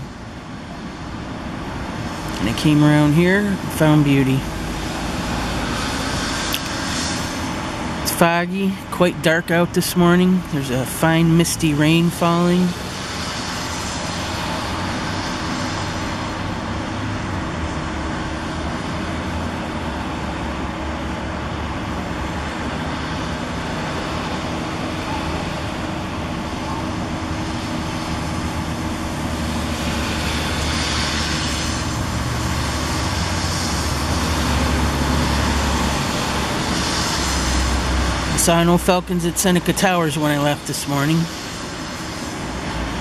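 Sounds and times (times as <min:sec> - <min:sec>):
city traffic noise: 0:00.0 - 0:43.0.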